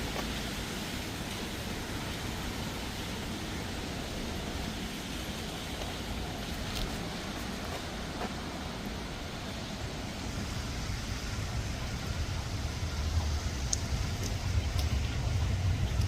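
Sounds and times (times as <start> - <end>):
car rumble on wet street: 0.0 - 16.0
steady hiss: 0.0 - 16.0.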